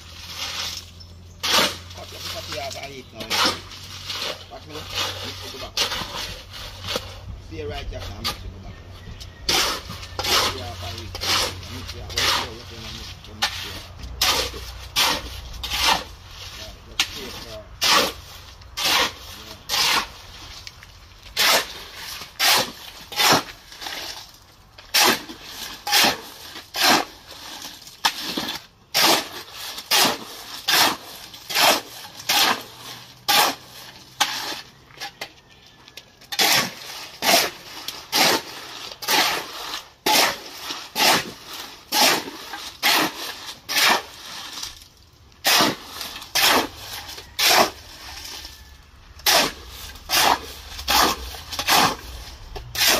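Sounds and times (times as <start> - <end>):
shovel scraping concrete mix: 0.0 - 52.9.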